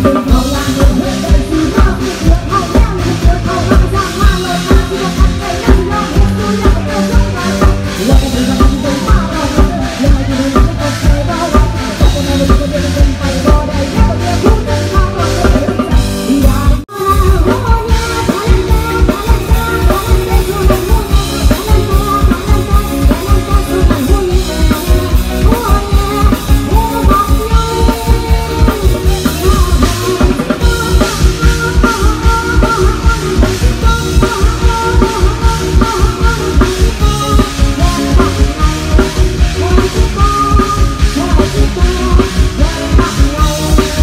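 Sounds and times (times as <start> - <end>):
live band playing dance music: 0.0 - 44.0.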